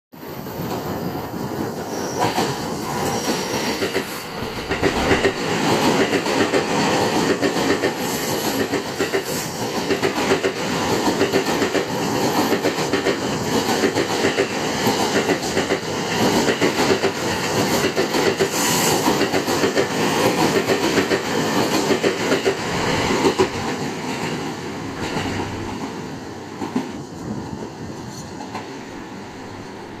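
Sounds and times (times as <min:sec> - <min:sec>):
train passing at speed: 0:00.1 - 0:30.0.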